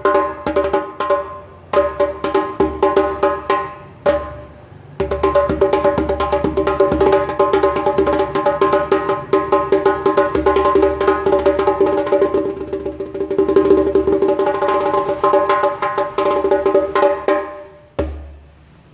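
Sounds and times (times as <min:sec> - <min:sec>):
djembe played with hands: 0:00.0 - 0:18.7.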